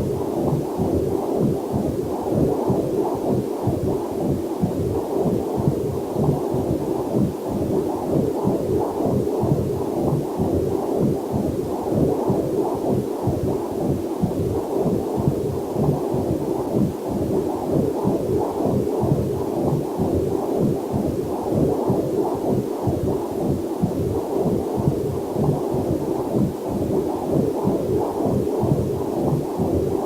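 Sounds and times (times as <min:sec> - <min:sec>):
heartbeat whooshing pulses: 0:00.0 - 0:30.0.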